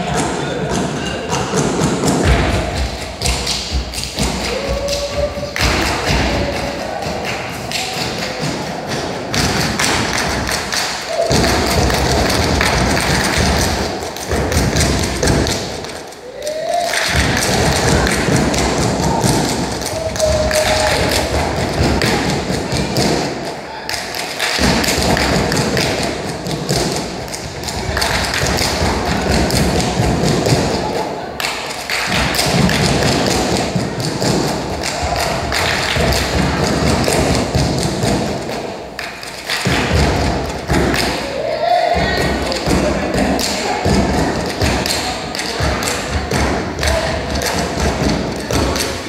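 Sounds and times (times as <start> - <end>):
hand claps: 0.1 - 41.3, 42.0 - 49.0.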